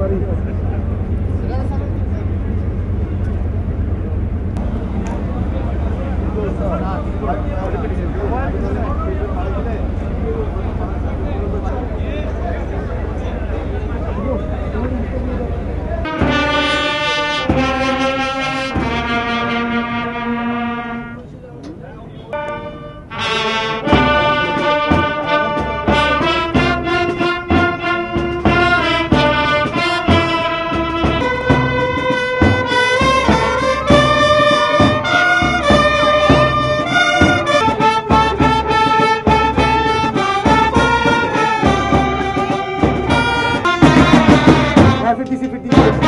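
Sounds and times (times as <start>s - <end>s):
brass band playing: 0.0s - 21.4s, 22.1s - 46.0s.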